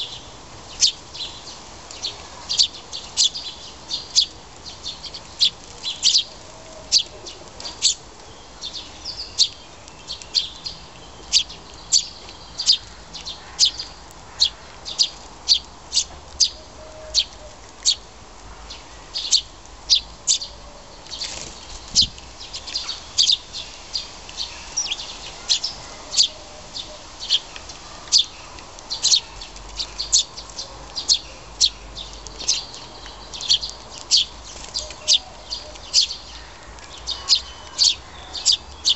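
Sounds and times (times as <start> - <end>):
fledgling bird chirping: 0.0 - 38.9.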